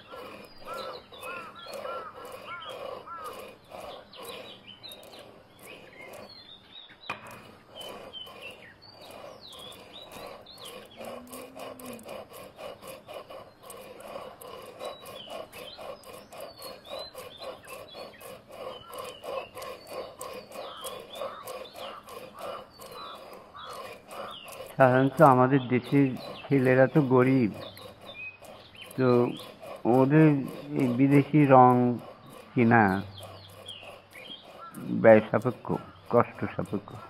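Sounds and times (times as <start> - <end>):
birds chirping: 0.0 - 37.0
pestle grinding in stone mortar: 0.0 - 37.0.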